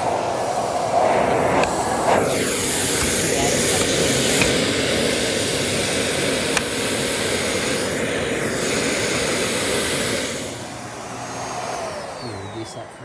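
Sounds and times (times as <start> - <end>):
vacuum cleaner click: 0.0 - 13.0
vacuum cleaner running: 0.0 - 13.0.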